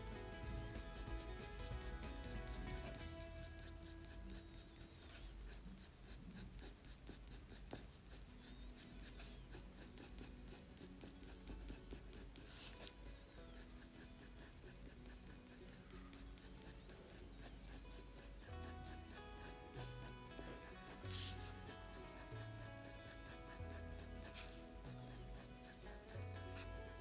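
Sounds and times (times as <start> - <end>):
pencil scratching on paper: 0.0 - 27.0.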